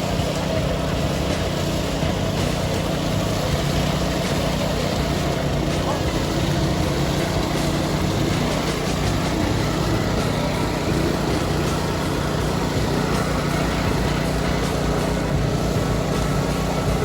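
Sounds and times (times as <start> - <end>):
heavy diesel engines droning: 0.0 - 17.0.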